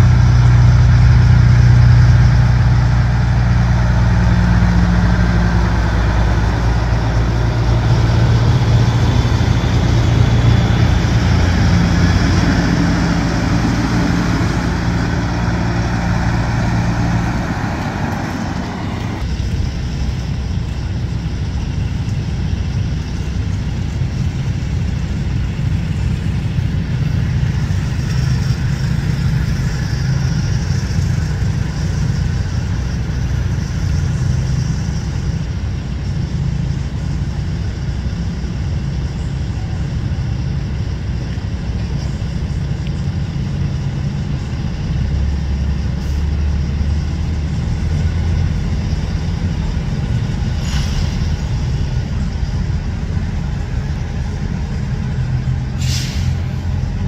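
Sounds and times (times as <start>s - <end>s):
low engine rumble of vehicles: 0.0s - 57.0s
truck diesel engine driving past: 0.0s - 57.0s.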